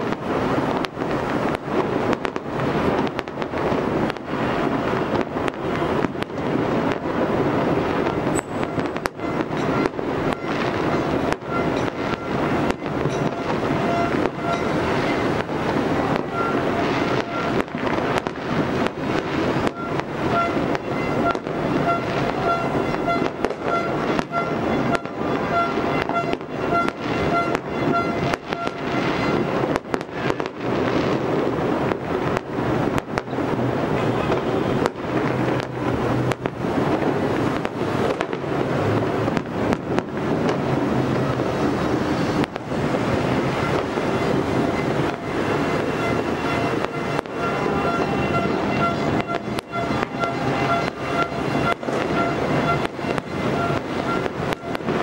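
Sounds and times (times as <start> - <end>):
fireworks crackling and rumbling: 0.0 - 55.0
sharp firecracker bangs: 0.0 - 55.0.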